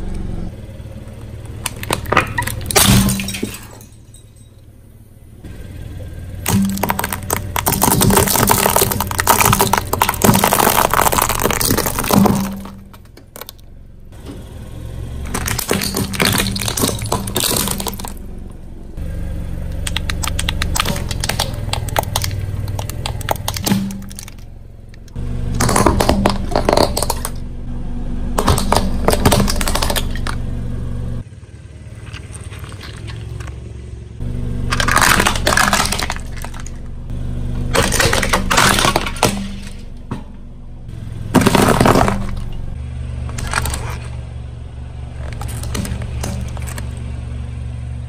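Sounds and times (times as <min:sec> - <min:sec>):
car engine running: 0:00.0 - 0:48.0
car tyre crushing crunchy objects: 0:00.0 - 0:48.0.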